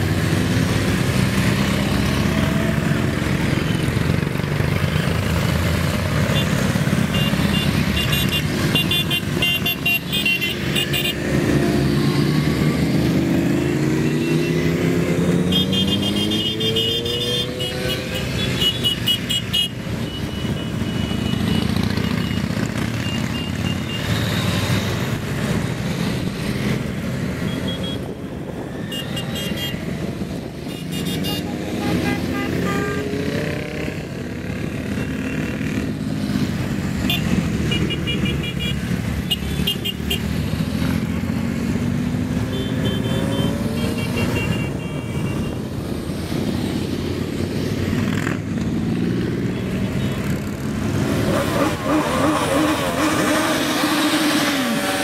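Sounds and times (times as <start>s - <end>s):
vehicles driving past: 0.0s - 55.0s.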